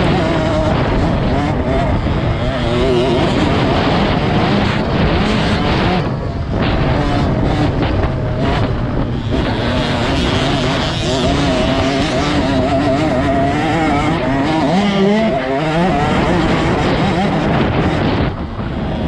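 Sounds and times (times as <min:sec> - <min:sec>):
motocross bike engine revving: 0:00.0 - 0:19.0
wind rushing over microphone: 0:00.0 - 0:19.0.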